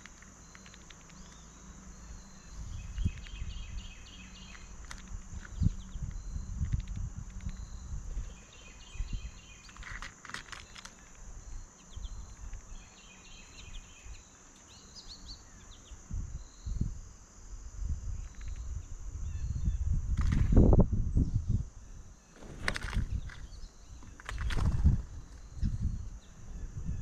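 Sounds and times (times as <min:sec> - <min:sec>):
small birds calling: 0:00.0 - 0:16.8, 0:21.2 - 0:27.0
high insect drone: 0:00.0 - 0:27.0.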